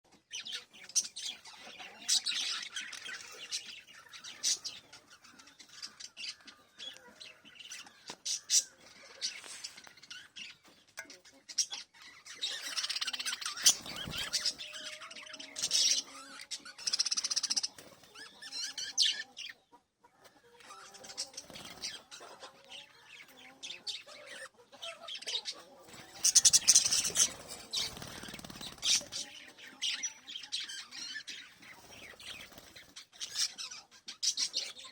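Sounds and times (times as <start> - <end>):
parrots chirping and squawking: 0.3 - 19.7, 20.6 - 34.9.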